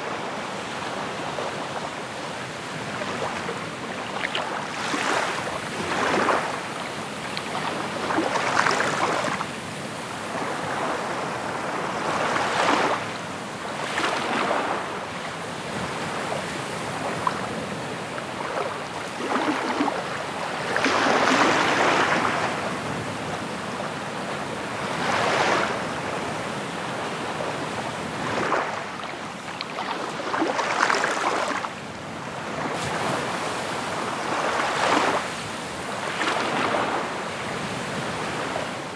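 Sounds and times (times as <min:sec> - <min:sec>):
waves washing on shore: 0:00.0 - 0:38.9.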